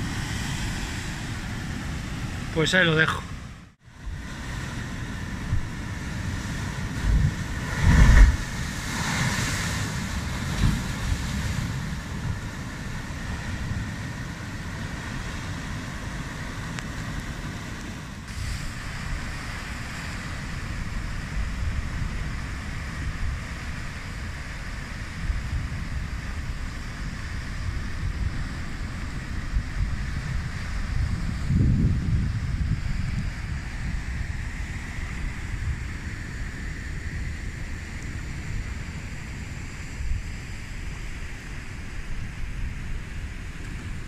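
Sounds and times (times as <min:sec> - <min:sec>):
wind buffeting microphone: 0:03.3 - 0:44.0
surf breaking against cliffs: 0:04.0 - 0:44.0.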